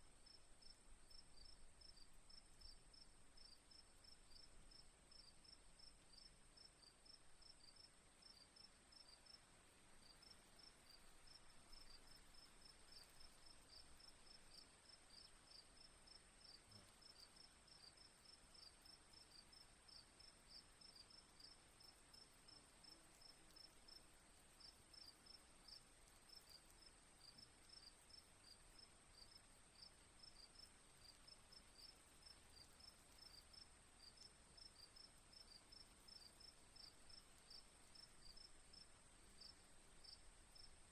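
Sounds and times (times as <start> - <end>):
faint crickets chirping: 0.0 - 40.9.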